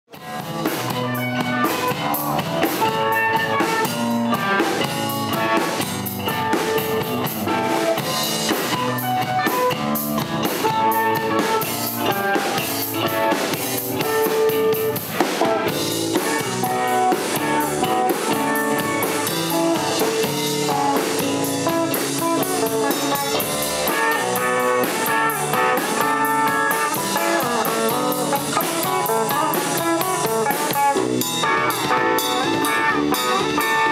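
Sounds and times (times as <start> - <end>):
bass guitar: 0.0 - 33.9
drum kit: 0.1 - 33.9
electric guitar: 0.1 - 33.9.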